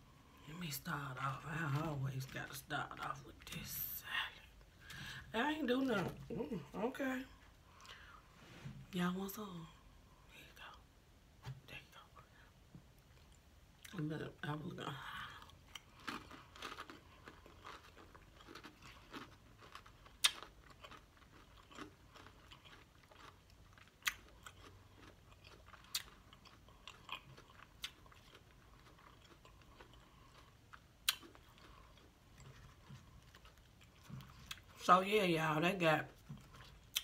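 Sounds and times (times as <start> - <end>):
chewing salad with crisp crunching: 0.0 - 8.1, 12.9 - 37.0.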